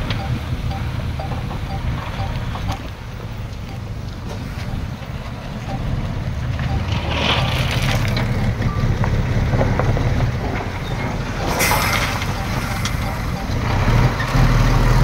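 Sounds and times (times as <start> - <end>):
diesel machine engine running: 0.0 - 15.0.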